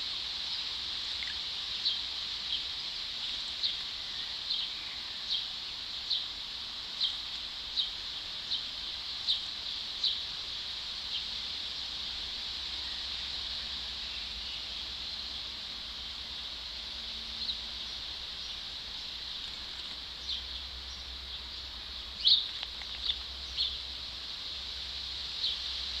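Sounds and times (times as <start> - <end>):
high-pitched outdoor hiss: 0.0 - 26.0.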